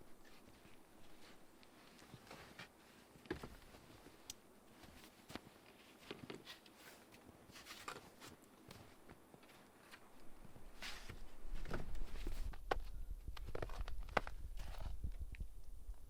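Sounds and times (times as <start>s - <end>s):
faint clicks and rustles: 0.1s - 16.0s.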